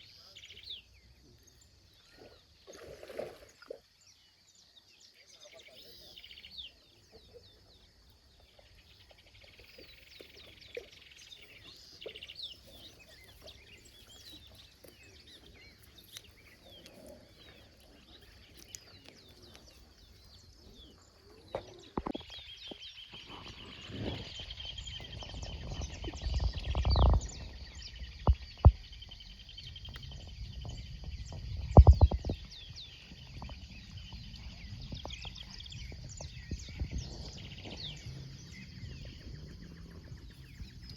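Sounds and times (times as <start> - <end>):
wild birds chirping: 0.0 - 40.9.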